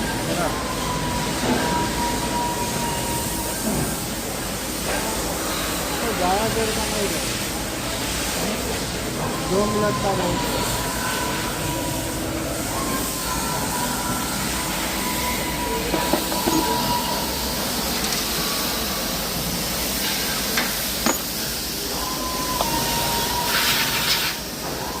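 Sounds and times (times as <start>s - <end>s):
cnc machine hissing and whining: 0.0s - 25.0s.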